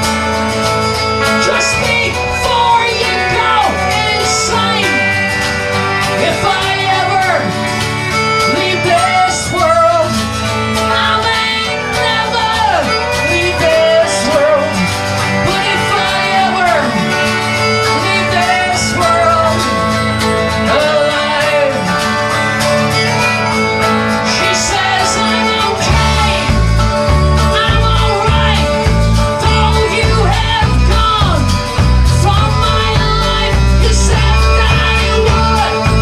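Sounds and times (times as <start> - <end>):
fiddle melody: 0.0 - 36.0
guitar melody: 0.0 - 36.0
heavy bass and drum beat: 0.0 - 36.0.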